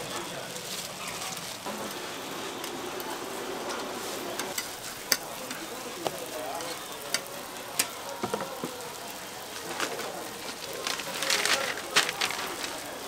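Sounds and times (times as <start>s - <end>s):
pancakes sizzling in oil: 0.0s - 13.0s.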